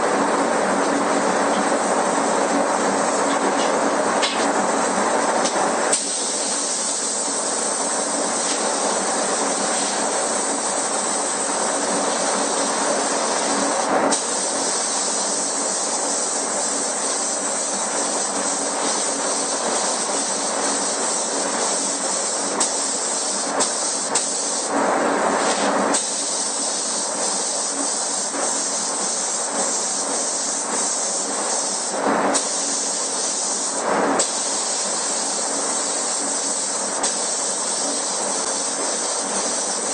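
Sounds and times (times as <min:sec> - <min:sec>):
paint spray gun hissing: 0:05.9 - 0:24.7, 0:25.4 - 0:39.9.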